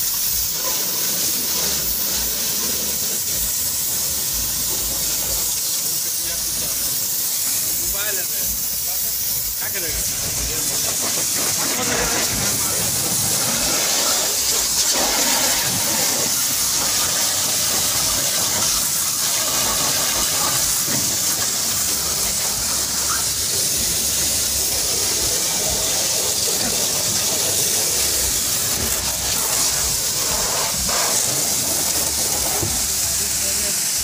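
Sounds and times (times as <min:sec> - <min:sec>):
hose spray hissing on car: 0:00.0 - 0:34.0.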